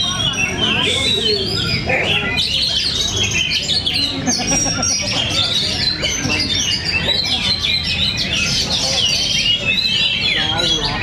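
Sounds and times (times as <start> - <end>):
chorus of birds singing: 0.0 - 11.0.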